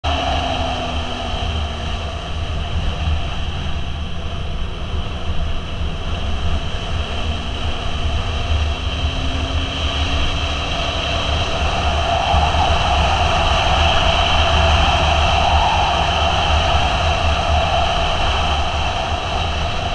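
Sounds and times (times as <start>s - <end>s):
motorcycle engine: 0.0s - 19.9s
wind rumble on microphone: 0.0s - 19.9s.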